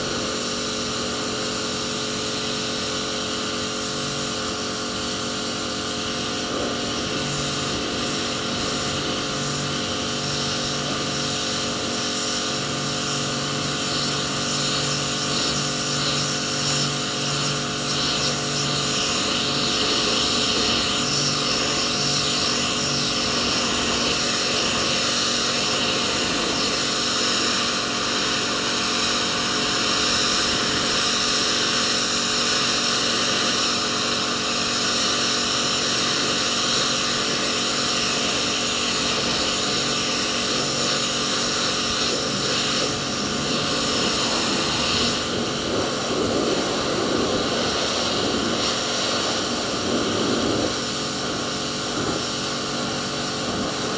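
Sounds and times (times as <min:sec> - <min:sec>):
pressure washer motor drone: 0:00.0 - 0:53.9
water jet spraying: 0:00.0 - 0:53.9.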